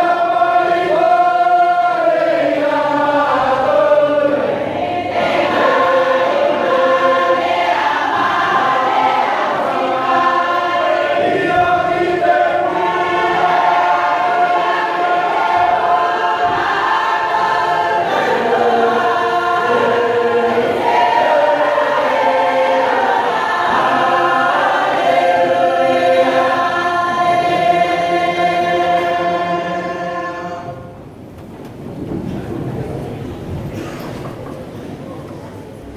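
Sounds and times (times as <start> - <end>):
congregation singing a hymn: 0.0 - 35.9.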